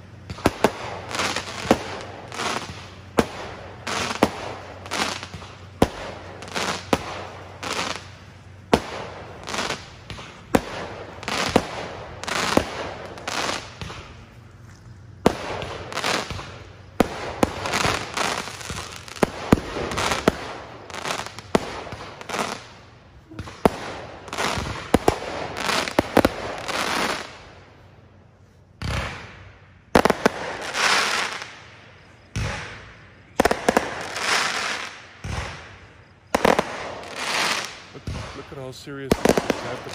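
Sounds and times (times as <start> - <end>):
firework bangs: 0.0 - 14.4, 15.1 - 27.6, 28.8 - 39.9
firework crackling: 0.0 - 28.2, 28.8 - 39.9.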